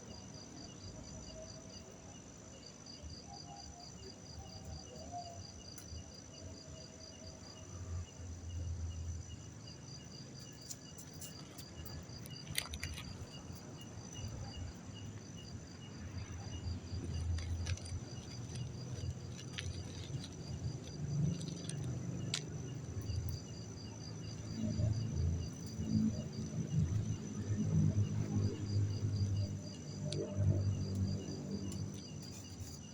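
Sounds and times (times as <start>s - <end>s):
crickets chirping: 0.0s - 32.9s
high-pitched insect trill: 0.0s - 32.9s.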